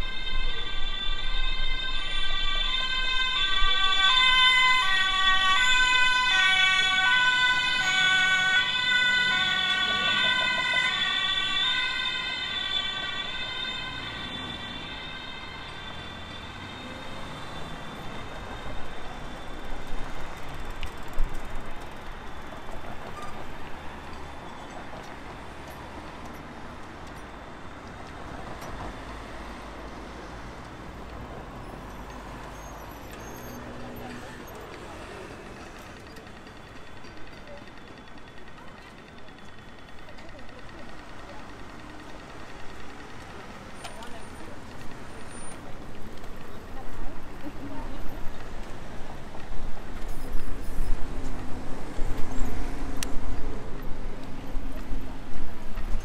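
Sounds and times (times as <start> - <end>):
two-tone siren: 0.0 - 53.9
city street traffic noise: 0.0 - 56.0.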